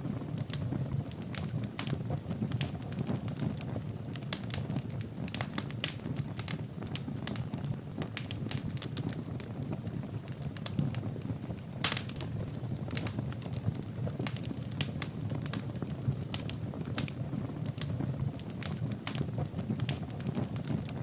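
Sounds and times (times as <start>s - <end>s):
fire crackles and pops: 0.0s - 21.0s
low rush of flames: 0.0s - 21.0s.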